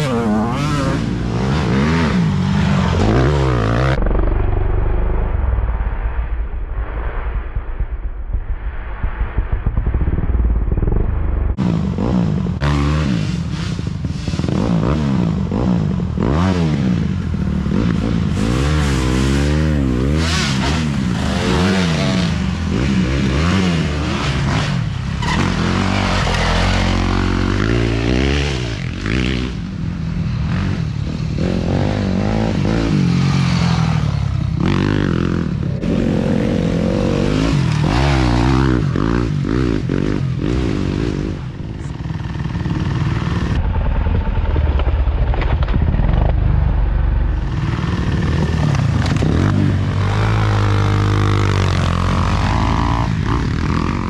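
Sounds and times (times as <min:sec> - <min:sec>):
dirt bike engines revving: 0:00.0 - 0:05.1, 0:11.6 - 0:43.7, 0:47.1 - 0:54.0.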